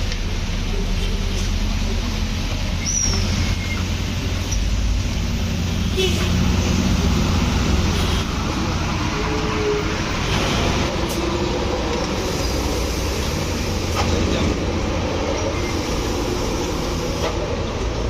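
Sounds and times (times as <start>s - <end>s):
heavy vehicle engine drone: 0.0s - 18.0s.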